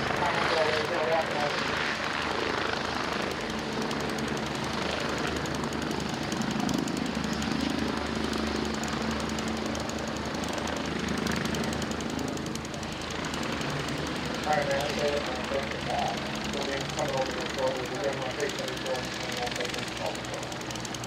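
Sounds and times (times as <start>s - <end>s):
helicopter engine hum: 0.0s - 21.0s
helicopter rotors chopping: 0.0s - 21.0s.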